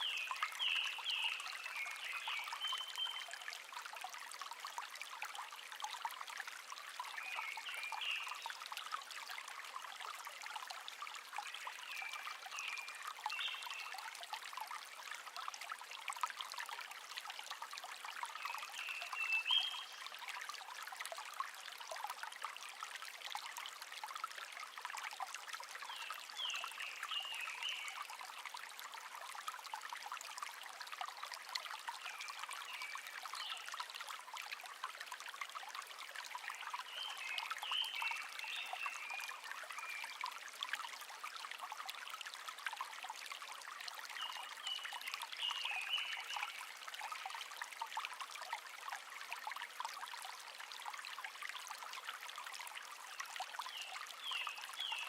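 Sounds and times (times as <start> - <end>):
brook trickling and babbling: 0.0 - 55.0.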